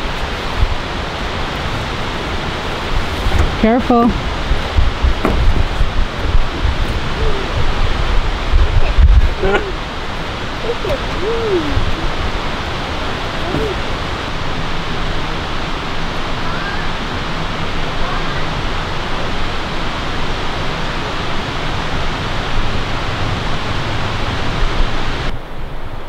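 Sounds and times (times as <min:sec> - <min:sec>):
fast river water rushing: 0:00.0 - 0:26.0.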